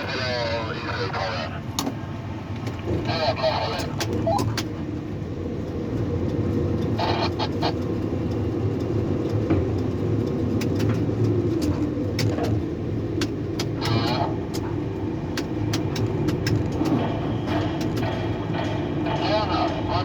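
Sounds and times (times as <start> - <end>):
crane machinery drone: 0.0 - 20.0.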